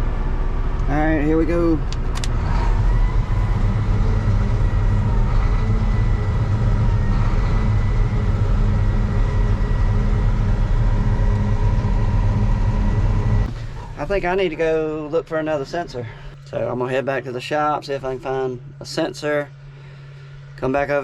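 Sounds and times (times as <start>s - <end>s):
combine harvester droning: 0.0s - 21.0s
high whine of threshing rotor: 0.0s - 21.0s.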